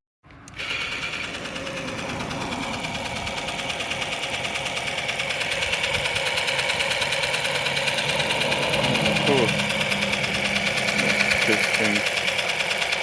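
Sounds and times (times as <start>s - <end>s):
toy car motor buzzing: 0.4s - 13.0s.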